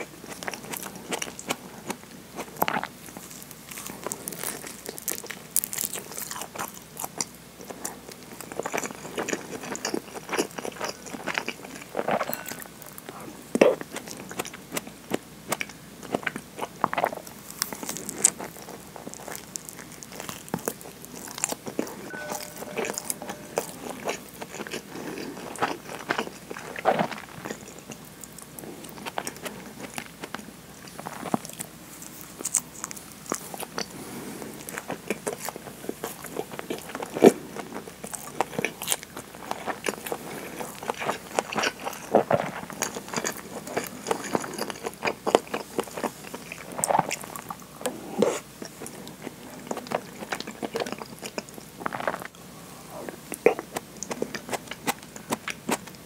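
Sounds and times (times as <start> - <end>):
chewing and biting rice ball: 0.0 - 22.1, 23.0 - 56.0.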